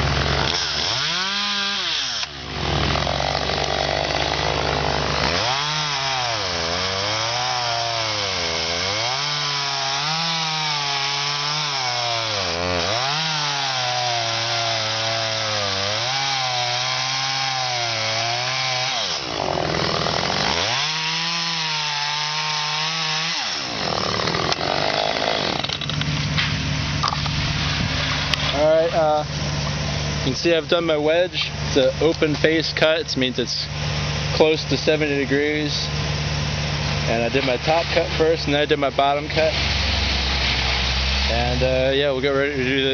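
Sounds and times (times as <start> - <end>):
chainsaw cutting wood: 0.0 - 33.0, 33.9 - 42.9.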